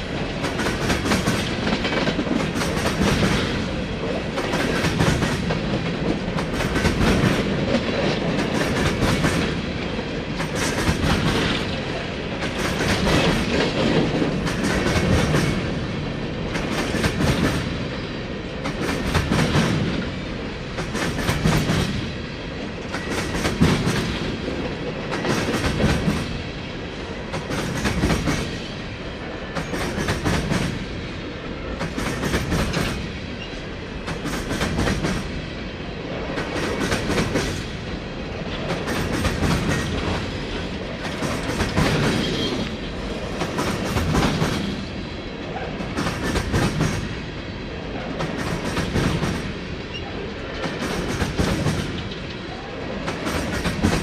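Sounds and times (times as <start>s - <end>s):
steel wheels clacking over rail joints: 0.0s - 26.5s, 27.2s - 28.7s, 29.5s - 31.0s, 31.7s - 35.4s, 36.2s - 47.2s, 48.0s - 54.0s.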